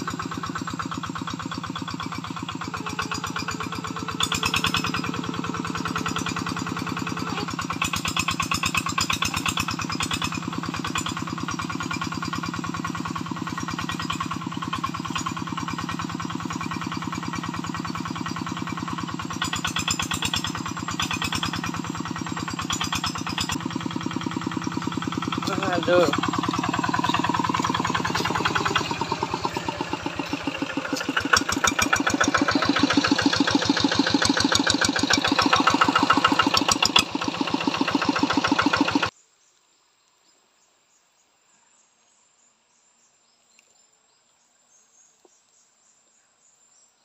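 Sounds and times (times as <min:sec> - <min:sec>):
clatter: 0:00.0 - 0:39.1
tractor engine running: 0:00.0 - 0:39.1.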